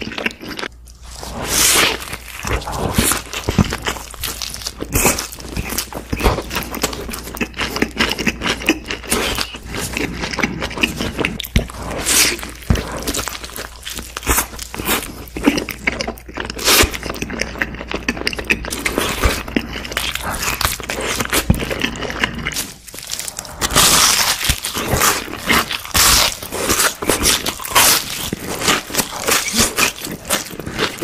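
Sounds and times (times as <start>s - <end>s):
person chewing and biting: 0.0s - 31.0s.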